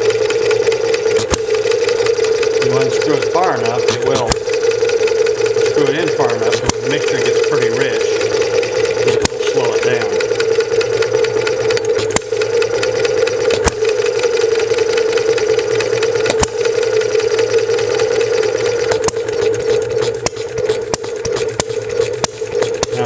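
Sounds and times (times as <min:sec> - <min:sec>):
model engine popping: 0:00.0 - 0:23.0
steady hum: 0:00.0 - 0:23.0.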